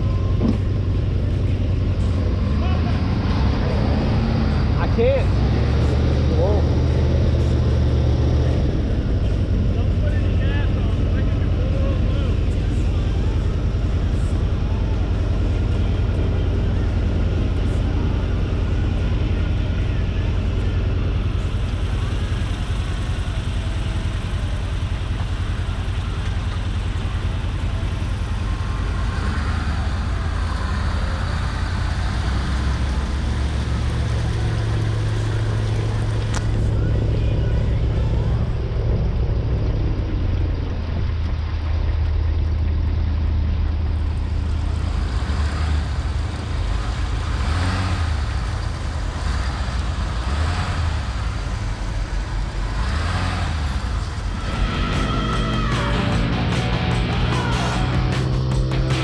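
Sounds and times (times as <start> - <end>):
pickup truck engine running: 0.0 - 59.0.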